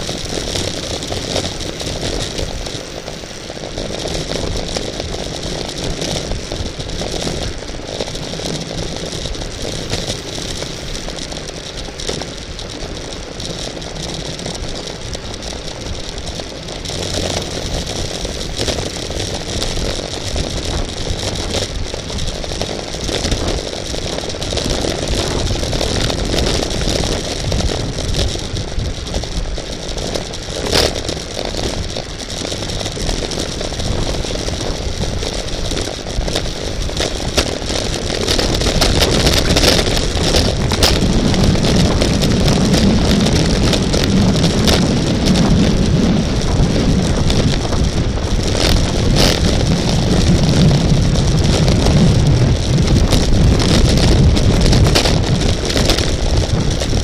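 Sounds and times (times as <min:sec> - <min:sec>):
road rumble: 0:00.0 - 0:57.0
wind rush: 0:00.0 - 0:57.0.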